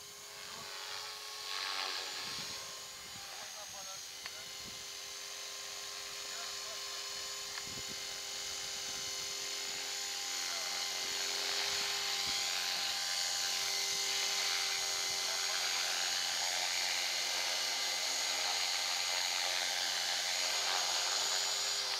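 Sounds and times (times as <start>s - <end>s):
rc helicopter motor whining: 0.0s - 21.9s
rotor blades hissing: 0.0s - 21.9s.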